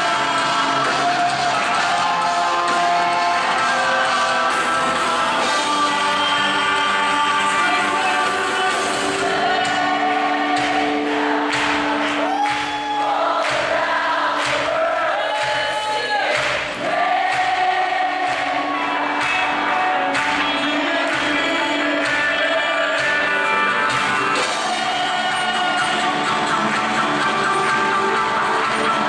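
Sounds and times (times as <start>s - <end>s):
band with drums: 0.0s - 29.0s
voices singing held notes: 0.0s - 29.0s.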